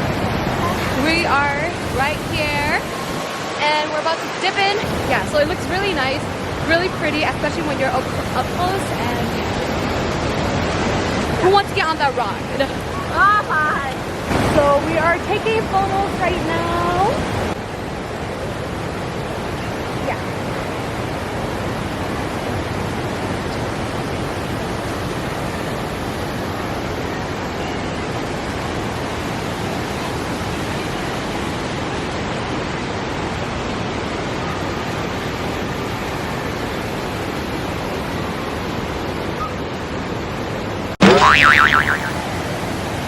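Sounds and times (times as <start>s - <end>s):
waterfall roaring: 0.0s - 43.0s.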